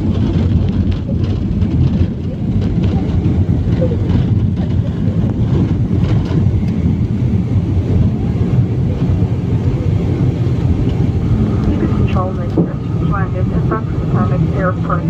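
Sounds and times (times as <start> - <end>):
jet airliner rumble from cabin: 0.0 - 15.0.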